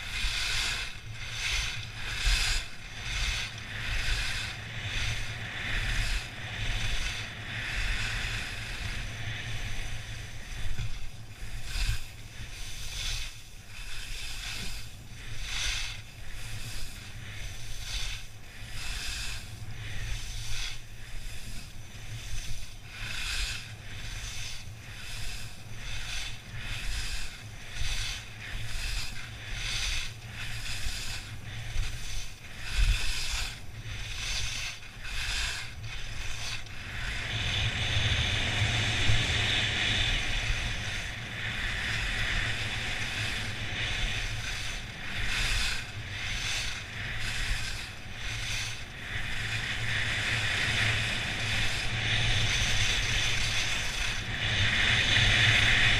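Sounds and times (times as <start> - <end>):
skis scraping on snow: 0.0 - 55.9
wind rumble on microphone: 0.0 - 55.9.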